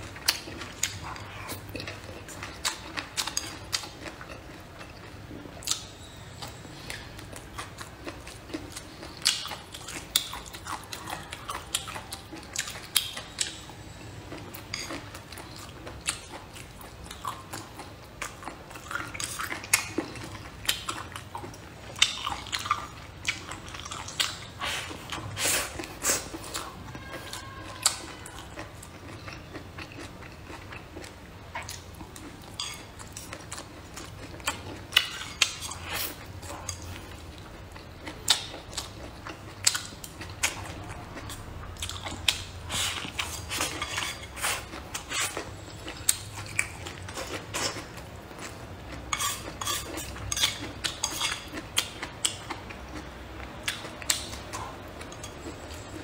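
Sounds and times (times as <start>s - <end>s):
chewing and biting: 0.1s - 56.0s.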